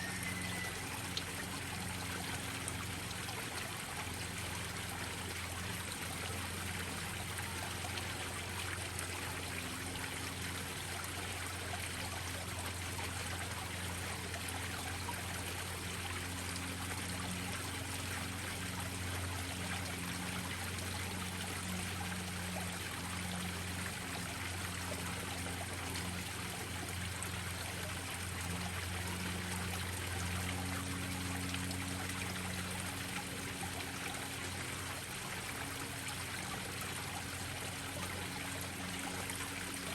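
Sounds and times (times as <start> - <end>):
waterfall splashing into pond: 0.0 - 39.9.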